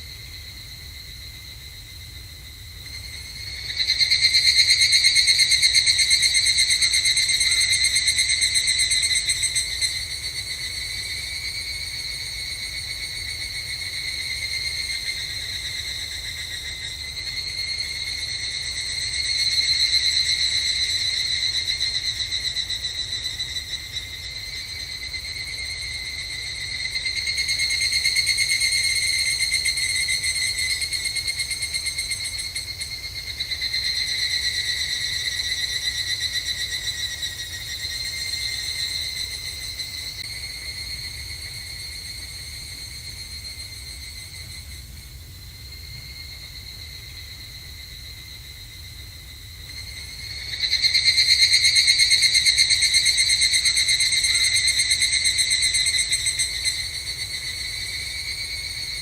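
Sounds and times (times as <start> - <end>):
cicadas pulsing trill: 0.0 - 59.0.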